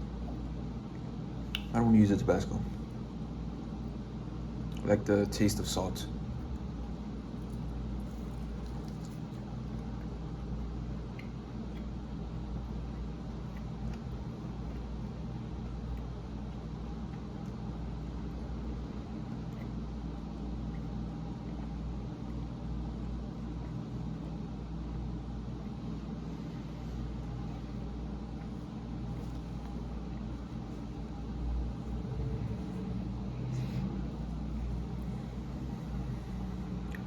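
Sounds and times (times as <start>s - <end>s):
faint chewing of food: 0.0s - 1.8s, 2.6s - 37.0s
steady low rumble: 0.0s - 37.0s.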